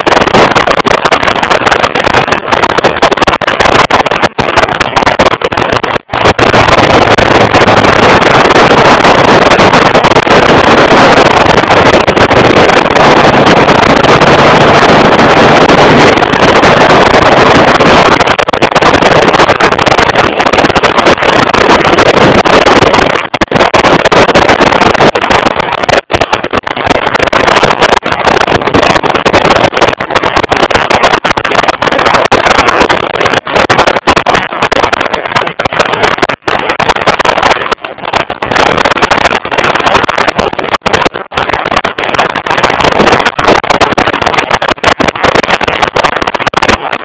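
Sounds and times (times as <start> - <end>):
wind rush on microphone: 0.0 - 47.0.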